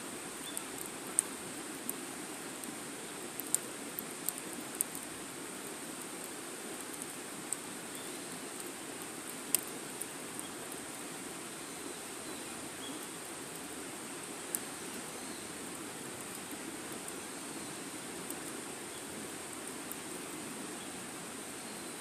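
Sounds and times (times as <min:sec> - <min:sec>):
wood fire hissing and crackling: 0:00.0 - 0:22.0.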